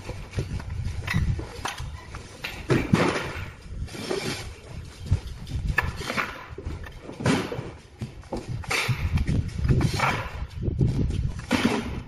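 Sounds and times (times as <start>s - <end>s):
knocks and clatter of tools: 0.0s - 12.0s.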